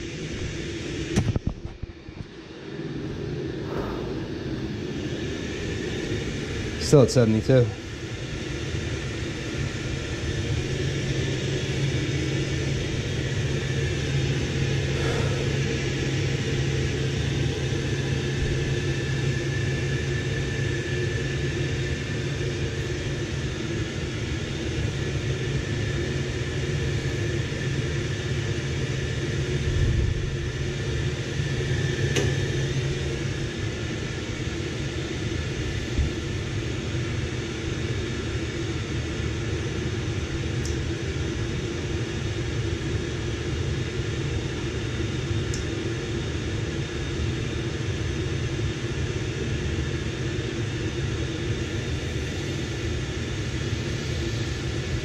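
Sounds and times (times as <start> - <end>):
boilers and pumps humming: 0.0 - 55.0.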